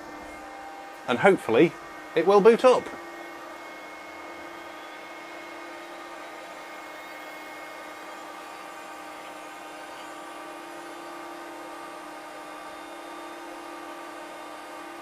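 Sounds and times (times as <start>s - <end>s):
machine hum and fan noise: 0.0s - 15.0s.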